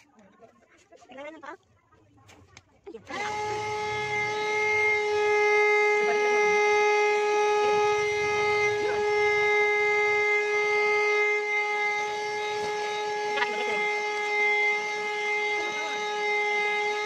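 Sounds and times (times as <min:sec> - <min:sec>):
handheld vacuum motor whine: 0:03.1 - 0:17.0.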